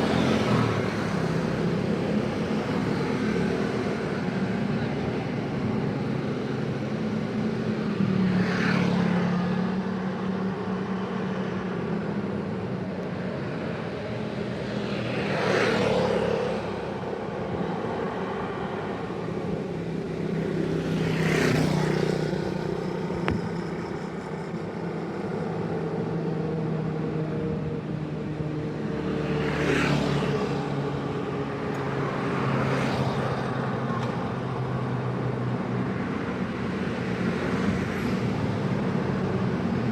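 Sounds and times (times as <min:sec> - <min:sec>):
hum of traffic engines: 0:00.0 - 0:39.9
vehicles passing close by: 0:00.0 - 0:39.9.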